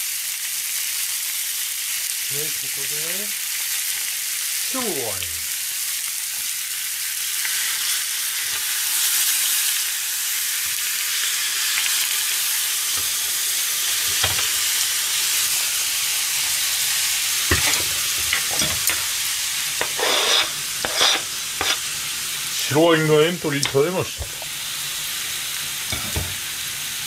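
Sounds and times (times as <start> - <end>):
chicken sizzling in a frying pan: 0.0 - 27.0.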